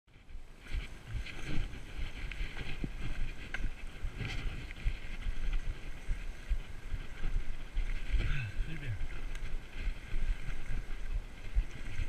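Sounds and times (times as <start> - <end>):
bike tyre rumble on dirt: 0.1 - 12.0
wind buffeting microphone: 0.1 - 12.0.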